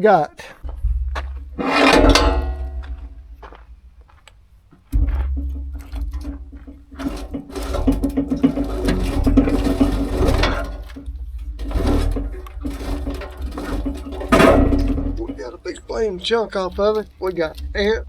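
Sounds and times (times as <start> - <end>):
machine humming and clattering: 0.6 - 18.0.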